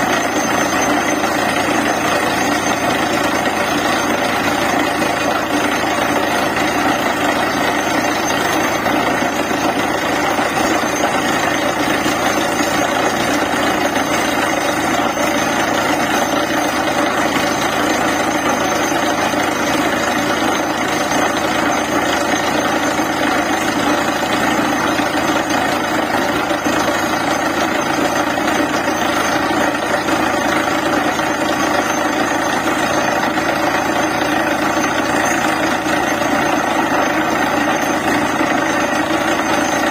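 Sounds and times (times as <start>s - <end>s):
drilling rig running: 0.0s - 39.9s.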